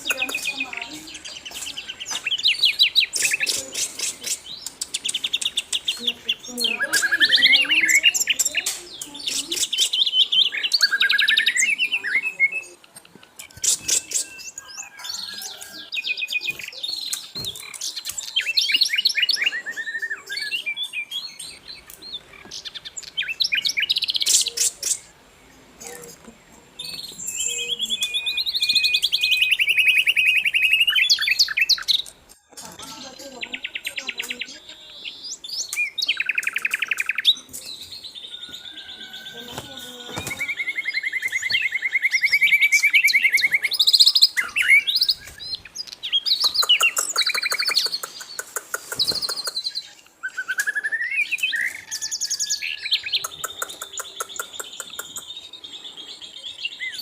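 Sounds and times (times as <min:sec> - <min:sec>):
bird singing whistled trills: 0:00.0 - 0:25.1, 0:26.8 - 0:57.0.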